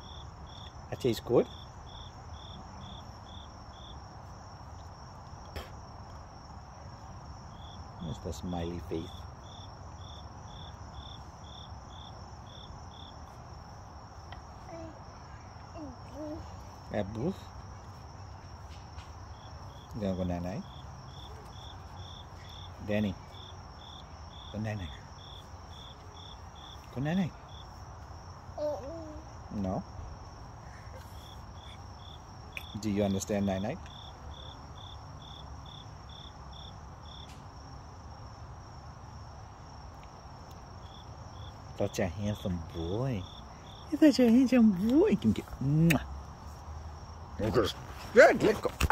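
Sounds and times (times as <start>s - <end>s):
cricket trilling: 0.0s - 48.9s.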